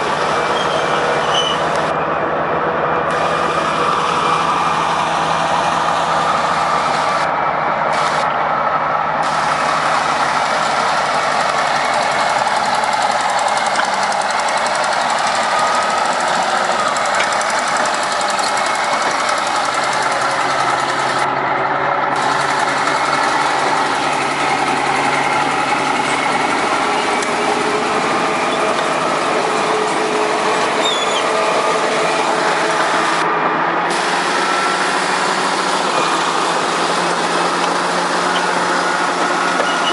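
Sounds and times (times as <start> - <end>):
heavy diesel machinery droning: 0.0 - 39.9.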